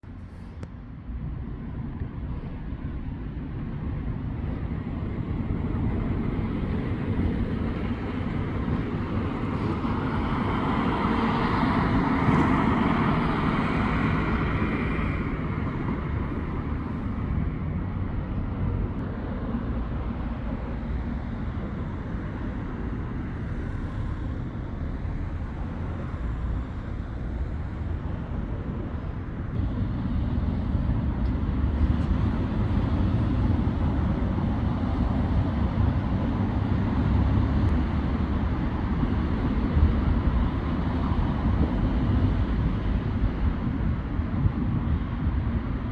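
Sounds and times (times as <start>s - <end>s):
traffic rumble: 0.0s - 45.9s.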